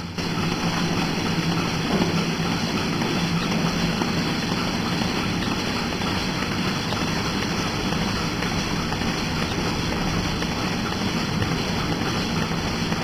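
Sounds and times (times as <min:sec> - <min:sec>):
milking machinery humming: 0:00.0 - 0:13.0.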